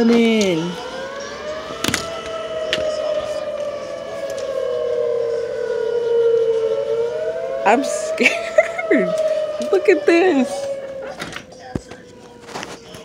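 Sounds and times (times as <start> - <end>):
tornado warning sirens wailing: 0.0 - 13.0.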